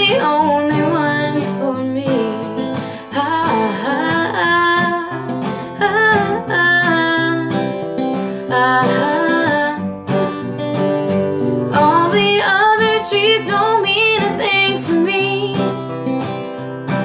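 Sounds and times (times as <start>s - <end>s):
woman singing: 0.0s - 10.5s, 11.7s - 16.0s
acoustic guitar: 0.0s - 17.0s.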